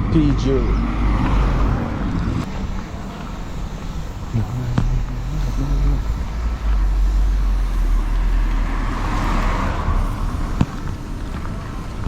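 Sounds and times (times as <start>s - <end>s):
low traffic rumble: 0.0s - 12.0s
vehicle passing by: 0.0s - 12.0s.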